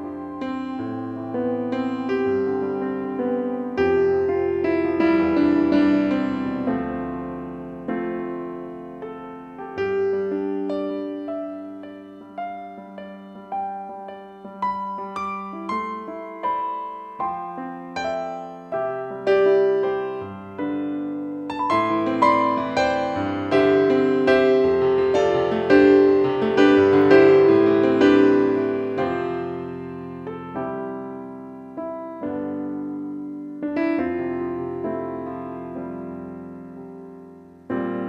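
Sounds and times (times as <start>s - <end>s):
slow gentle piano chords: 0.0s - 38.0s.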